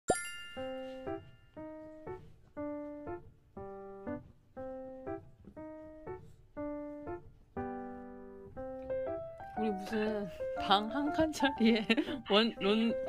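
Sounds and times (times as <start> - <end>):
background music tune: 0.1 - 13.0.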